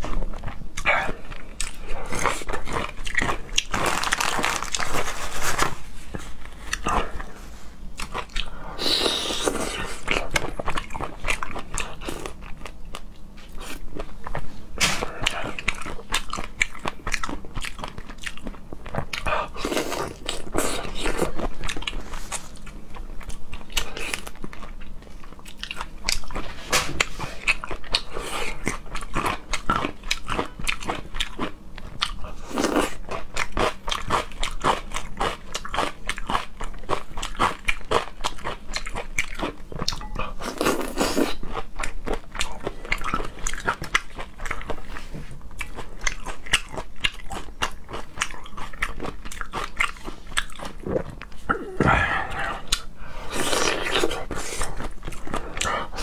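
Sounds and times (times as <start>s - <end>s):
crunchy chewing with clicks: 0.0s - 56.0s.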